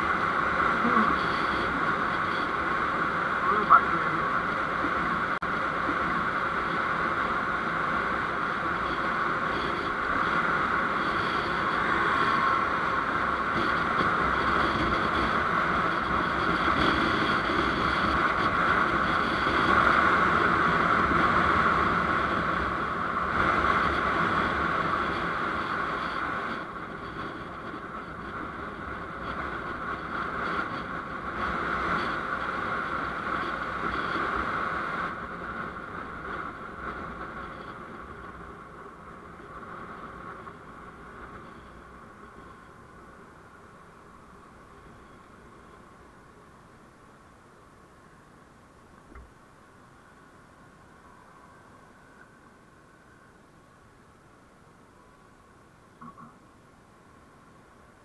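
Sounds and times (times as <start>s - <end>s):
constant hum: 0.0s - 58.0s
road and wind noise: 0.0s - 58.0s.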